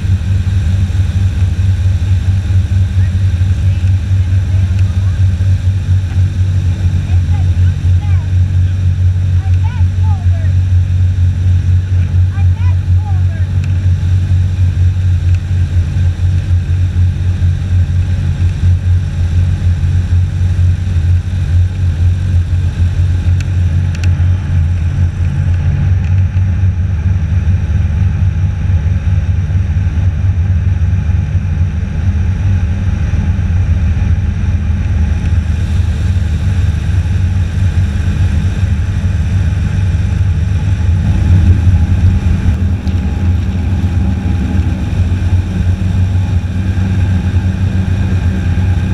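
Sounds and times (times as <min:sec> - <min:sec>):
airboat engine and propeller drone: 0:00.0 - 0:48.9.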